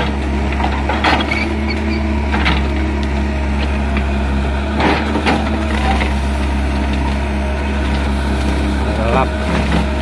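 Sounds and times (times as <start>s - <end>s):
excavator diesel engine under load: 0.0s - 10.0s.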